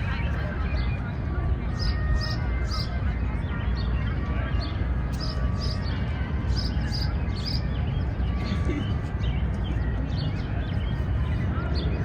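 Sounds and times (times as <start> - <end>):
distant city traffic rumble: 0.0 - 12.0
small songbirds chirping: 0.0 - 12.0.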